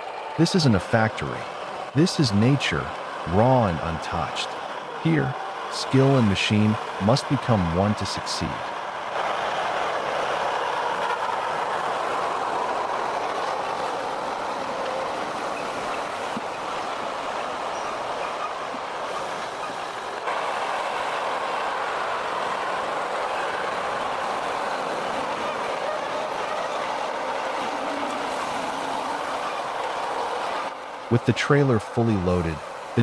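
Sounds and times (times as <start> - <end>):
forwarder machine running: 0.0 - 33.0.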